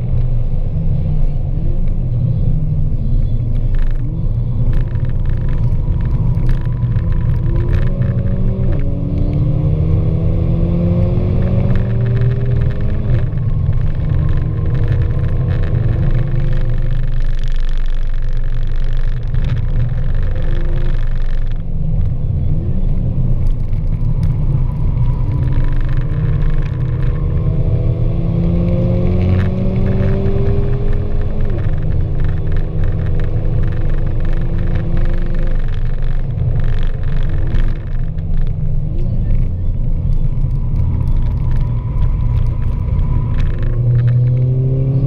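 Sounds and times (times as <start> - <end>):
car engine rumbling: 0.0 - 45.0
road noise: 0.0 - 45.0.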